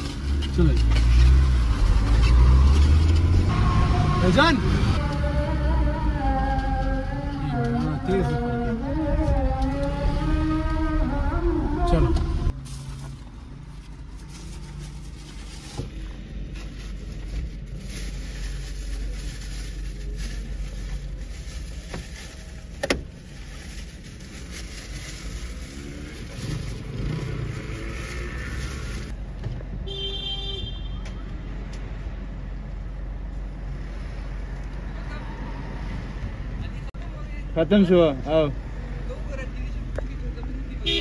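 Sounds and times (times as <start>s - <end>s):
road and engine rumble: 0.0s - 41.0s.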